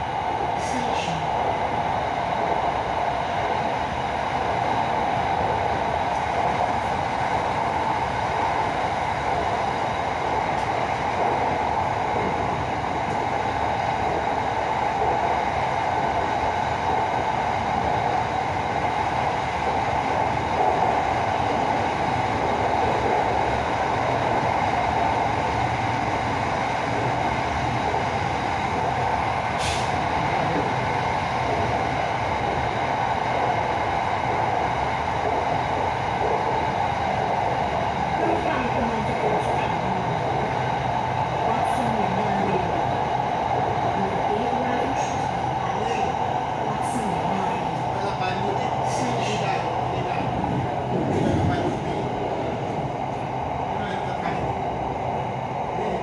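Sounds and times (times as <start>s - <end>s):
train wheels on rail: 0.0s - 56.0s.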